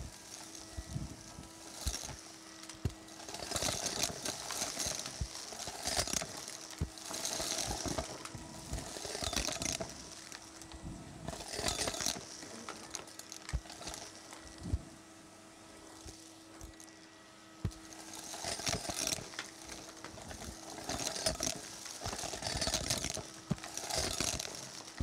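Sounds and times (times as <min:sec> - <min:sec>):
debris clicking through hose: 0:00.0 - 0:10.7, 0:11.3 - 0:14.8, 0:17.6 - 0:25.0
vacuum cleaner motor humming: 0:00.0 - 0:25.0.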